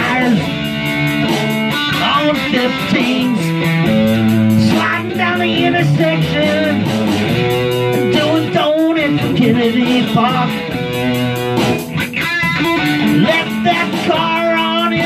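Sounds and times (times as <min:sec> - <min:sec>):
electric guitar rock groove: 0:00.0 - 0:15.0
steady drum beat: 0:00.0 - 0:15.0
wavering guitar lead melody: 0:00.0 - 0:15.0.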